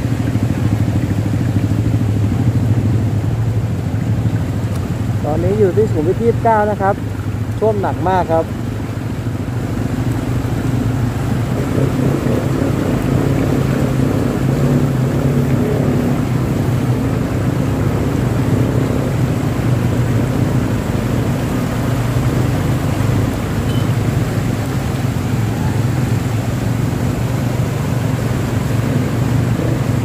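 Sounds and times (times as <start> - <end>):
vehicle engines running: 0.0 - 30.0
vehicles splashing through water: 0.0 - 30.0.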